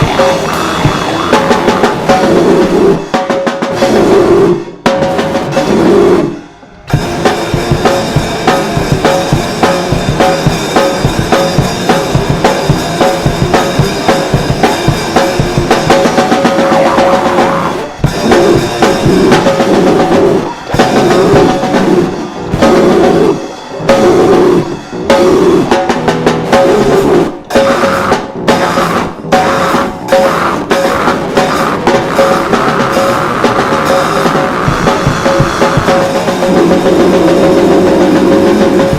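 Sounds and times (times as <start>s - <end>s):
band playing loud music: 0.0s - 38.9s
drum kit bass drum and snare: 0.0s - 38.9s.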